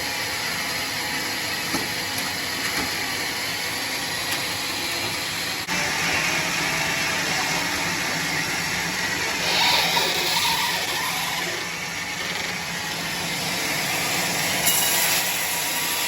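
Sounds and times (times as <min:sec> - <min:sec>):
sawmill machinery hissing: 0:02.4 - 0:16.0.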